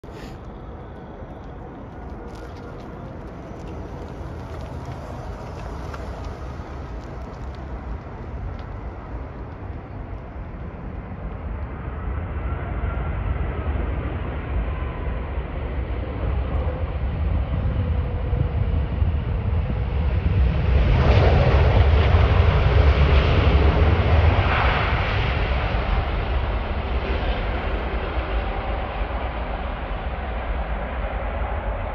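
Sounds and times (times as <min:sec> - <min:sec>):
faint engine whines: 0:00.0 - 0:31.9
jet engines rumbling during landing: 0:00.0 - 0:31.9.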